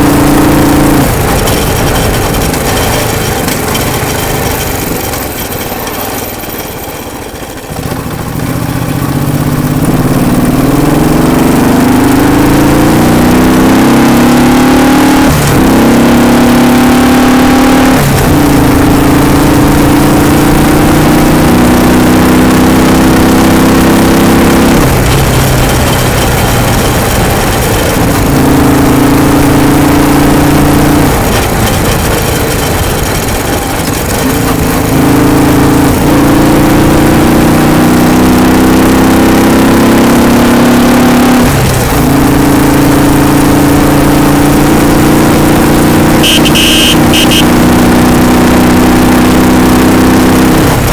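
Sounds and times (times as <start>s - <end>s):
motorcycle engine running under load: 0.0s - 50.9s.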